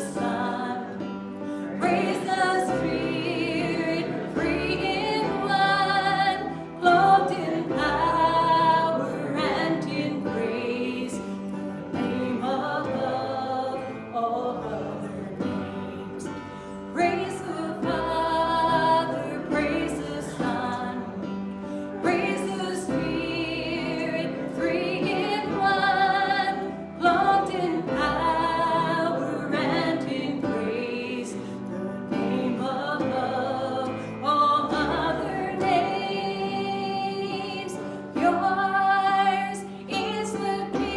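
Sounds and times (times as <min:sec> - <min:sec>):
instrumental accompaniment: 0:00.0 - 0:40.9
voices singing with vibrato: 0:00.0 - 0:40.9.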